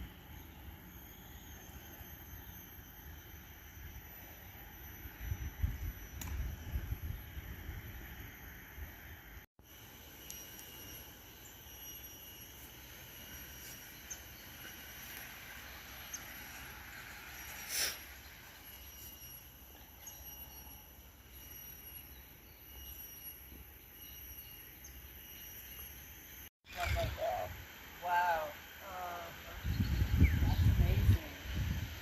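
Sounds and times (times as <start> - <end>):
high-pitched drone: 0.0 - 32.0.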